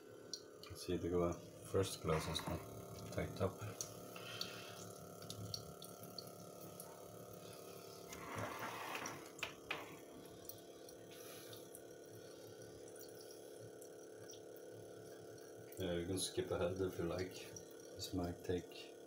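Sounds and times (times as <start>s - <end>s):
small water pump humming: 0.0s - 19.0s
water trickling and dripping: 1.9s - 19.0s.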